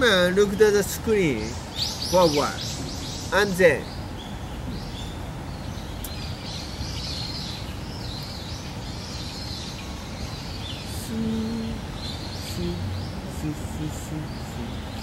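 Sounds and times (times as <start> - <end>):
low outdoor rumble: 0.0 - 15.0
wild birds chirping and singing: 0.0 - 15.0.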